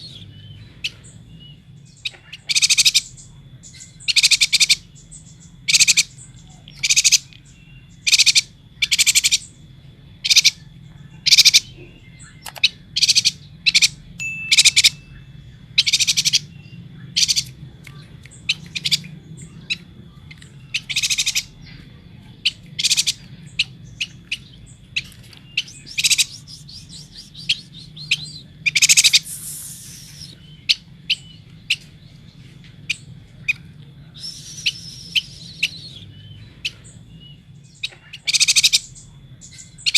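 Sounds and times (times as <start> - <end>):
bird chirping and twittering: 0.0 - 39.9
faint hum: 0.0 - 39.9.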